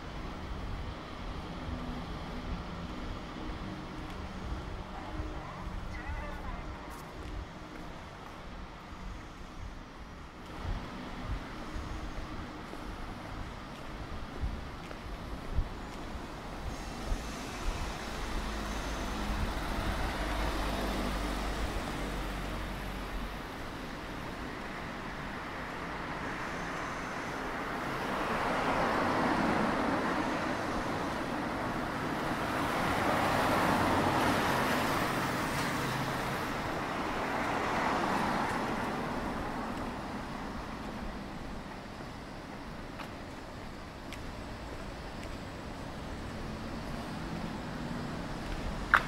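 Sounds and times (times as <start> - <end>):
cars passing by: 0.0 - 49.0
low traffic rumble: 0.0 - 49.0.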